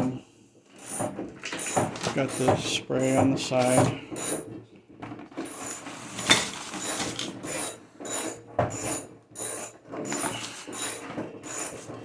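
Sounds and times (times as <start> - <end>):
ratchet wrench cranking: 0.7 - 4.5, 5.5 - 12.0.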